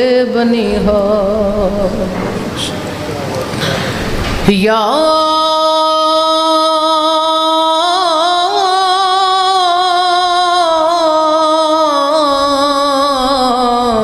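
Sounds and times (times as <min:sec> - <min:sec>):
man singing ornamented line: 0:00.0 - 0:02.8, 0:04.5 - 0:14.0.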